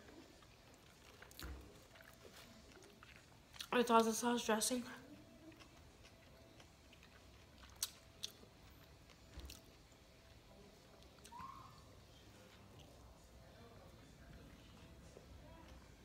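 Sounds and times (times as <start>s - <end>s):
faint chewing: 0.0s - 16.0s.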